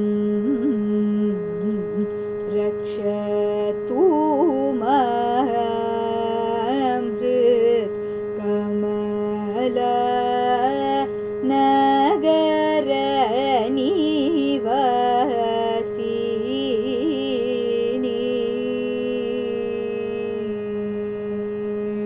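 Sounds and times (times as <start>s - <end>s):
steady drone: 0.0s - 22.0s
woman singing devotional song: 0.0s - 22.0s.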